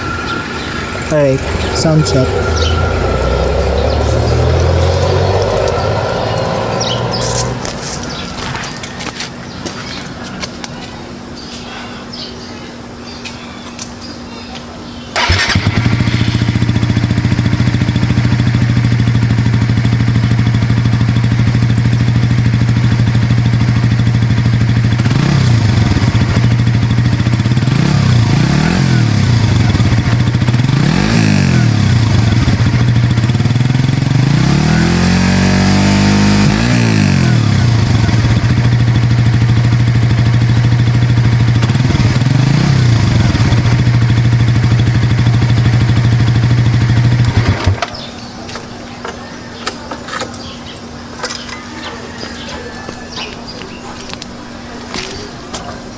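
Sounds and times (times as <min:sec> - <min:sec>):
motorcycle engine idling and revving: 0:00.0 - 0:55.9.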